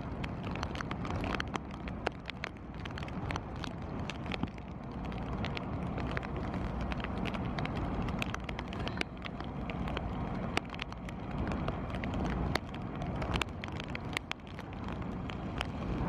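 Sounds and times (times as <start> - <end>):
raindrops ticking on camera: 0.0 - 16.0
wind rumble on microphone: 0.0 - 16.0.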